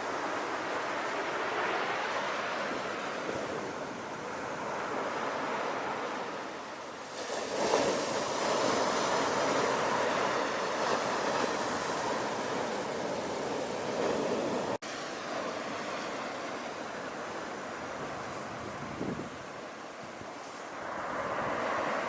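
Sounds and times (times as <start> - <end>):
sea waves surf wash: 0.0 - 22.0
wave breaking: 0.5 - 19.4.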